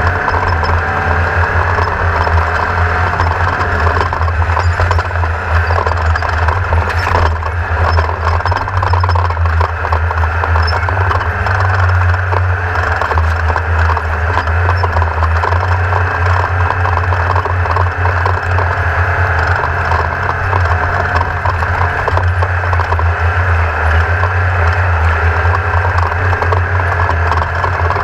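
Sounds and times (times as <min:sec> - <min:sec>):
buggy engine running: 0:00.0 - 0:28.0
chassis rattling and knocking: 0:00.0 - 0:28.0.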